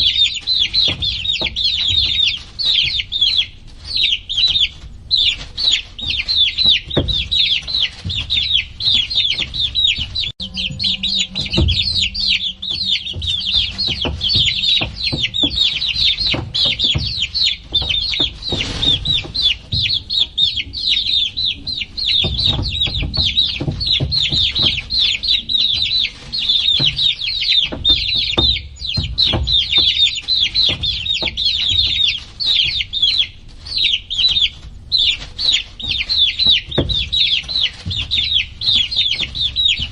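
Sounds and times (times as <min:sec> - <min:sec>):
low thumps and knocks: 0:00.0 - 0:33.2, 0:34.2 - 0:39.9
baby chicks peeping: 0:00.0 - 0:39.9.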